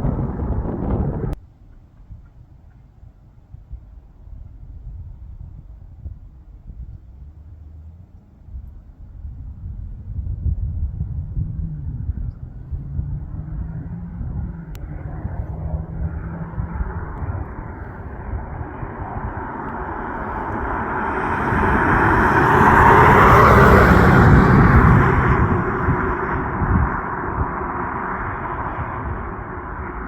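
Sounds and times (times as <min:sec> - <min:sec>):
car engine rumbling and revving: 0:00.0 - 0:01.4, 0:06.8 - 0:30.0.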